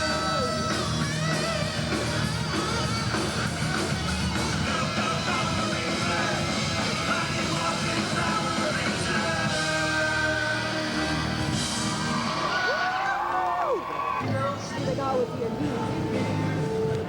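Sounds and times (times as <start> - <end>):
rock music with singing: 0.0 - 13.4, 14.1 - 17.0.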